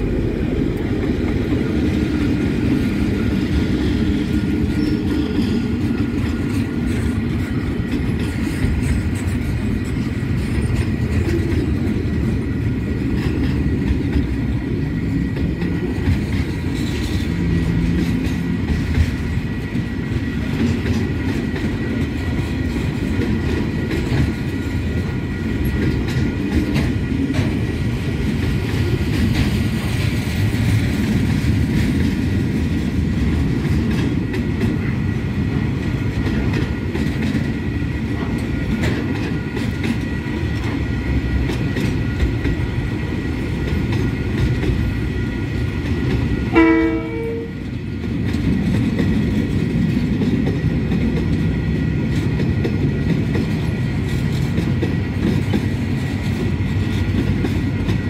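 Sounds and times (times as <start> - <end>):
locomotive passing: 0.0 - 58.0.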